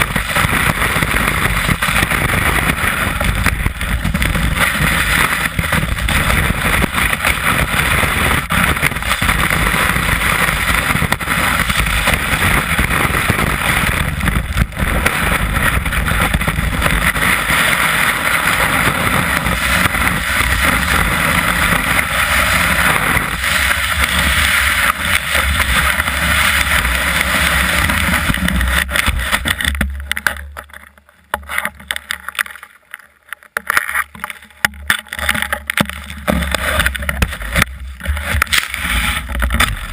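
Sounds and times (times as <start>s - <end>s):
snowboard scraping on snow: 0.0s - 30.0s, 35.1s - 39.9s
wind on microphone: 0.0s - 30.2s, 35.9s - 39.9s.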